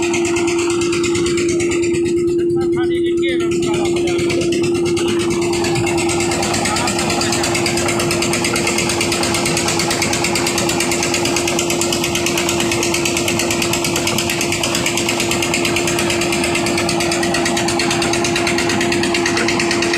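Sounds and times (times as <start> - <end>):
diesel machinery rattling: 0.0 - 19.9.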